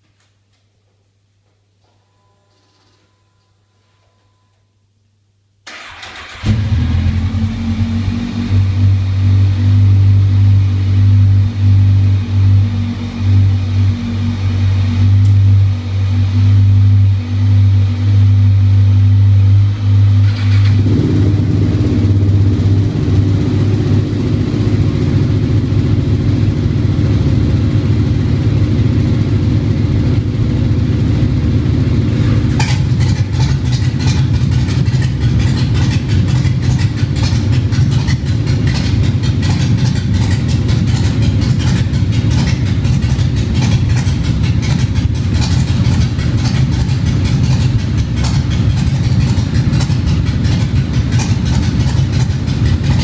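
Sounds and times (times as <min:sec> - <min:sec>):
second motorcycle engine: 0:05.7 - 0:53.0
motorcycle engine revving: 0:05.8 - 0:53.0.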